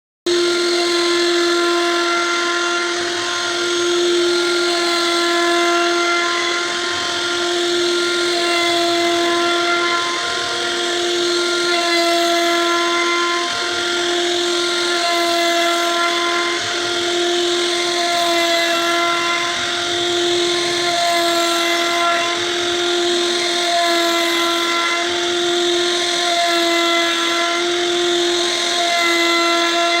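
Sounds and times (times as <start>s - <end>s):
router spindle whine: 0.3s - 30.0s.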